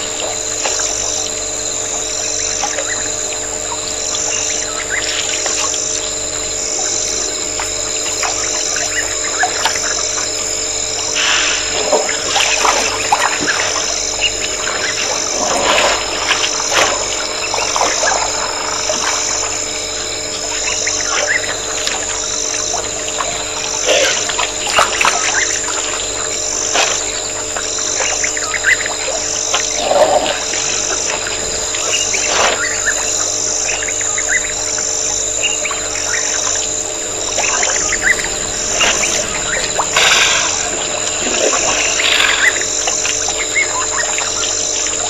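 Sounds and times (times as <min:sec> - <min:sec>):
constant hum and hiss: 0:00.0 - 0:45.0
wild birds chirping: 0:00.0 - 0:45.0.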